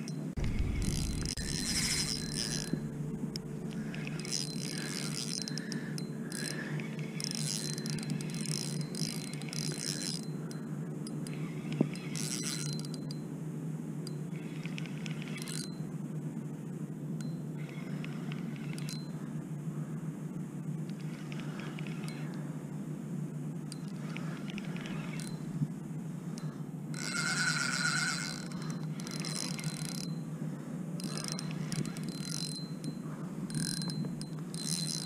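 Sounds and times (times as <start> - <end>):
fishing reel gears whirring and clicking: 0.0 - 13.3, 14.0 - 15.9, 17.2 - 19.2, 20.8 - 22.4, 23.7 - 25.5, 26.3 - 30.2, 31.0 - 35.0
steady low hum: 0.0 - 35.0.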